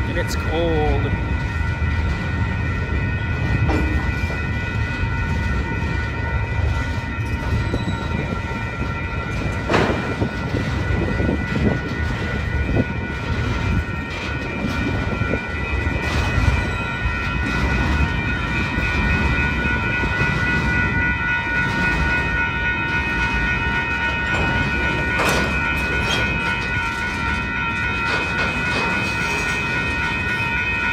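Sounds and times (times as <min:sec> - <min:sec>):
train wheels rumbling on rail: 0:00.0 - 0:30.9.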